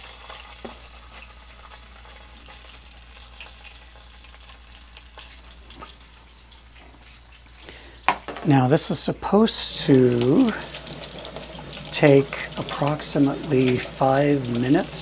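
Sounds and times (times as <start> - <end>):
bacon sizzling in oil: 0.0 - 15.0.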